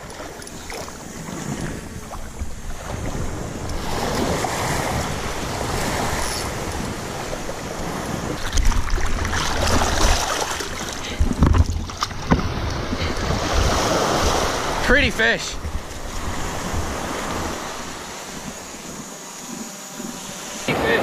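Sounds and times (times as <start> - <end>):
ocean surf washing: 0.0 - 21.0
wind buffeting microphone: 0.0 - 21.0.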